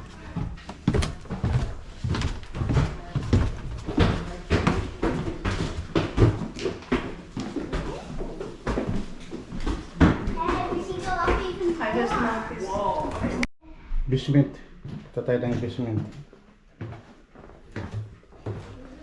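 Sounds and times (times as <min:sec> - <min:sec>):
footsteps on wooden stairs: 0:00.0 - 0:13.5, 0:14.8 - 0:19.0.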